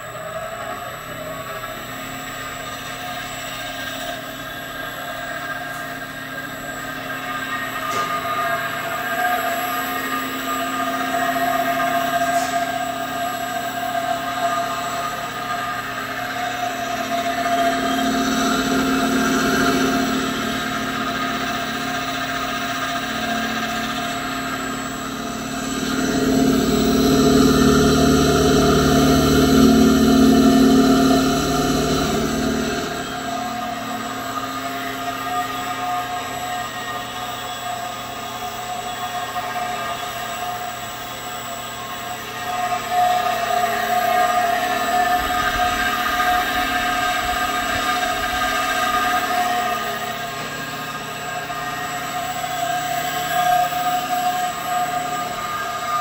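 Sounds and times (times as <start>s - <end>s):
mill motor hum and whine: 0.0s - 56.0s.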